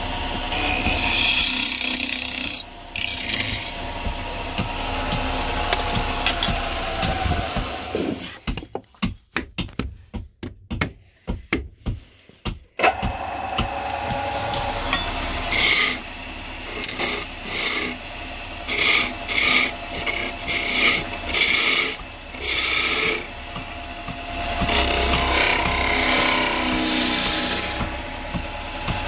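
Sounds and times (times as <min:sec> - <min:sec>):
wood lathe humming: 0:00.0 - 0:08.3, 0:12.8 - 0:29.0
tool scraping spinning wood: 0:00.0 - 0:08.6, 0:12.8 - 0:29.0.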